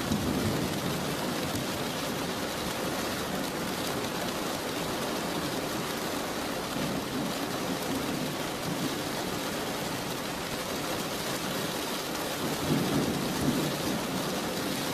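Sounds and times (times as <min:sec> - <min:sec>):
steady rain hiss: 0:00.0 - 0:14.9.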